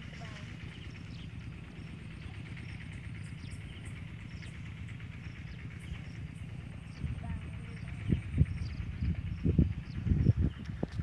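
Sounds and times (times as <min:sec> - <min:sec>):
insects chirring: 0:00.0 - 0:11.0
steady low rumble: 0:00.0 - 0:11.0.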